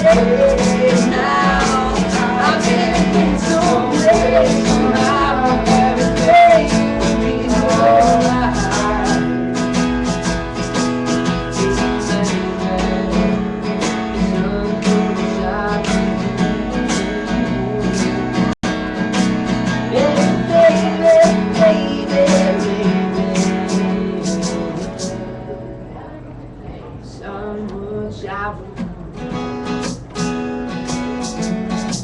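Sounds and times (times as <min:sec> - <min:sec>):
acoustic band playing: 0:00.0 - 0:32.0
strummed acoustic guitar: 0:00.0 - 0:32.0.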